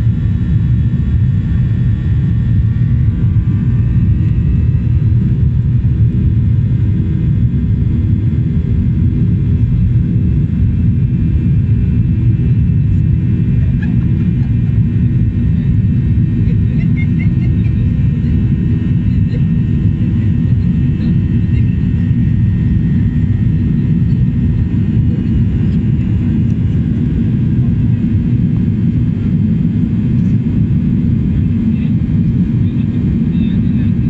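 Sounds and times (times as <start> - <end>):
faint engine whine: 0.0 - 34.0
jet engines rumbling: 0.0 - 34.0.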